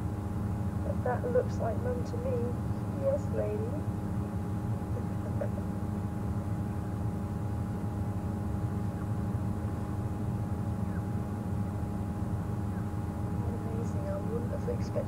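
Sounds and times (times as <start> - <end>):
faint constant hum: 0.0 - 15.0.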